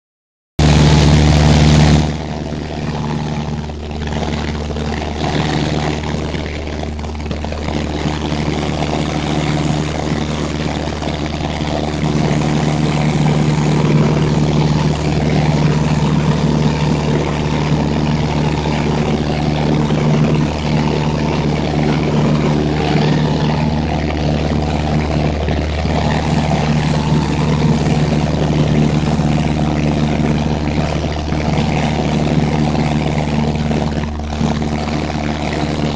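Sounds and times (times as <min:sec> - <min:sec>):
plane engine and propeller droning: 0:00.6 - 0:35.9.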